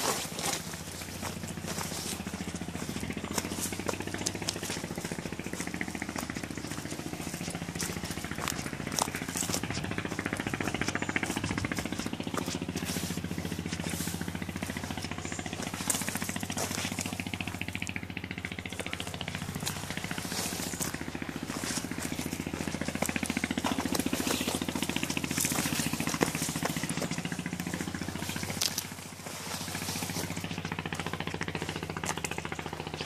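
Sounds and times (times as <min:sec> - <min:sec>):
small engine running: 0:00.0 - 0:33.0.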